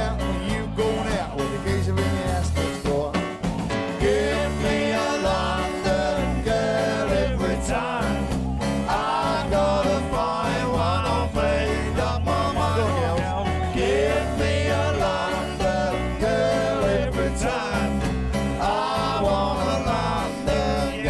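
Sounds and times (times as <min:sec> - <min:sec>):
drums: 0:00.0 - 0:21.0
electric bass: 0:00.0 - 0:21.0
stage piano: 0:00.0 - 0:21.0.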